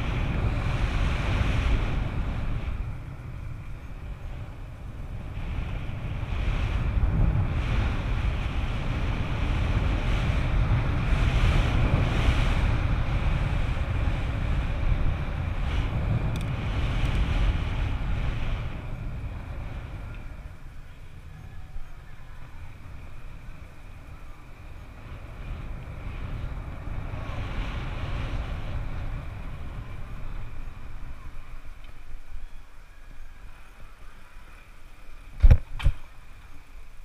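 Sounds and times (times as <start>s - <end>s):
mountain bike rumbling and rattling: 0.0s - 37.0s
wind buffeting microphone: 0.0s - 37.0s.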